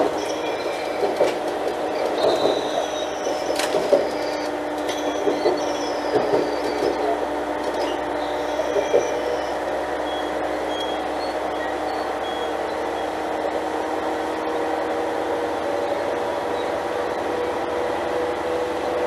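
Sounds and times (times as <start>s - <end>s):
train diesel engine droning: 0.0s - 19.0s.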